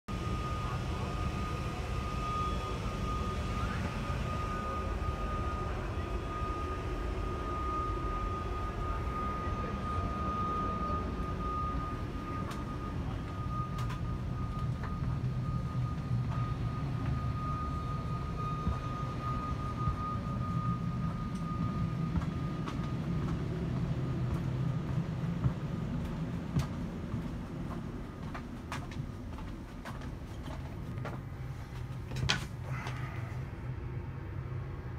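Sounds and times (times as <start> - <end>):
aircraft cabin low rumble: 0.1 - 34.9
thin constant whine: 0.1 - 34.9.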